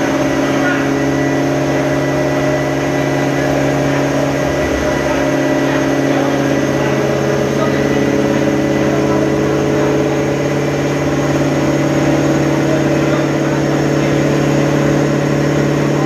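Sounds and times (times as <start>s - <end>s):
dyno rollers turning: 0.0s - 16.0s
supercharged car engine running: 0.0s - 16.0s.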